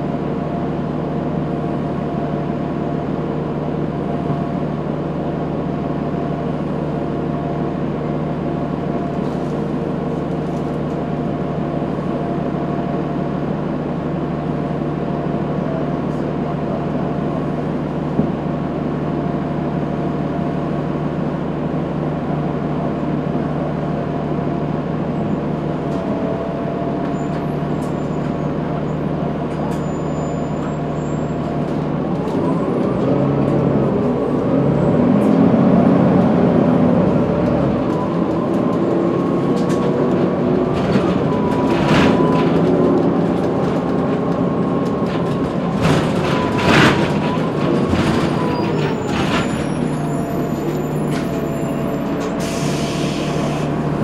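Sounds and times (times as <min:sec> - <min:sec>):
bus diesel engine drone: 0:00.0 - 0:54.0.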